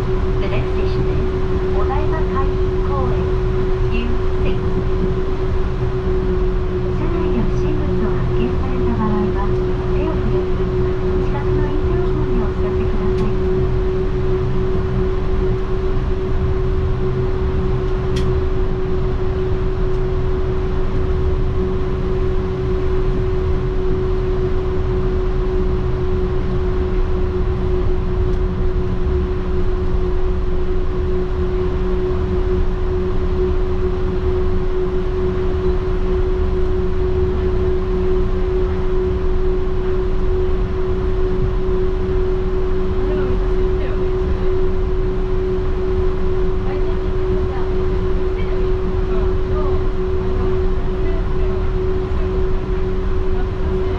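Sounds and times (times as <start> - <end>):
train interior drone: 0.0 - 53.9.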